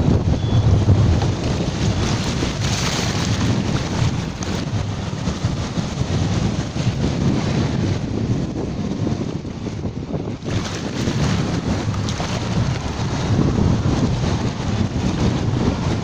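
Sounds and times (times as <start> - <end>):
ocean surf washing on beach: 0.0 - 16.0
wind rumbling on microphone: 0.0 - 16.0.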